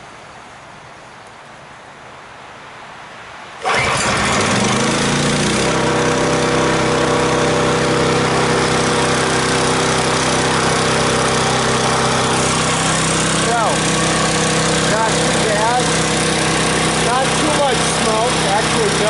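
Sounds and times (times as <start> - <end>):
small gasoline engine running: 3.6 - 19.0.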